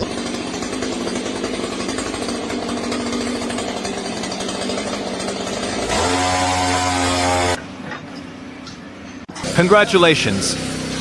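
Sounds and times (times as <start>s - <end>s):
small engine pulsing rattle: 0.0s - 8.5s, 9.1s - 11.0s.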